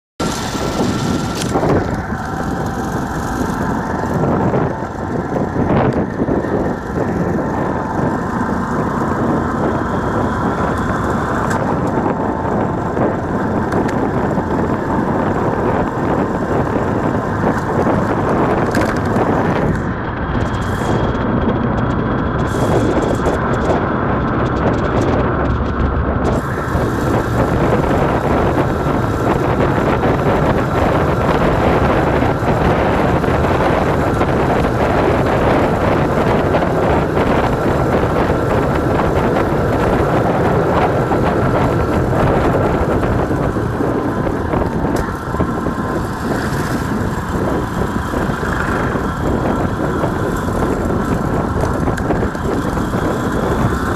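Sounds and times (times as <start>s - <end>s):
motorcycle engine running: 0.0s - 53.9s
wind noise on microphone: 0.2s - 53.9s.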